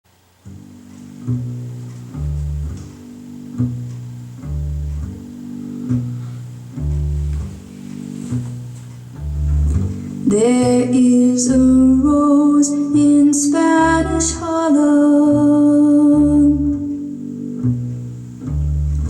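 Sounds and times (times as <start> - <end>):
guitar: 0.1 - 19.0
plucked bass riff: 0.3 - 19.0.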